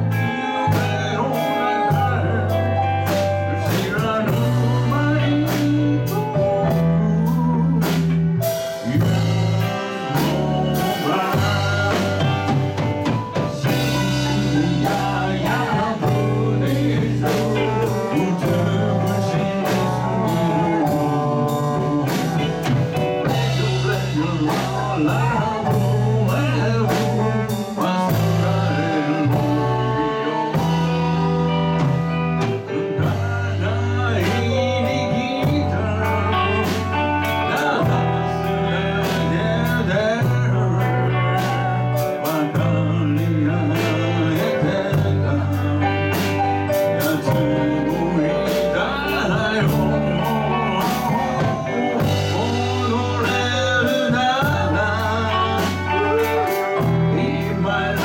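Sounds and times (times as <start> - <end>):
live rock band playing: 0.0 - 58.0
men singing lead: 0.0 - 58.0.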